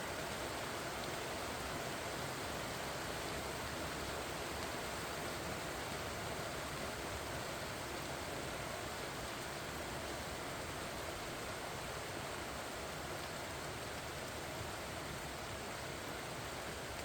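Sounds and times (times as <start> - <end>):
rain on leaves: 0.0 - 17.0.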